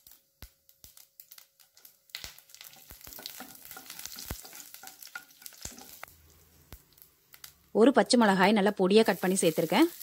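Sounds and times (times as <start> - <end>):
leaves crackling in hot oil: 0.0 - 10.0.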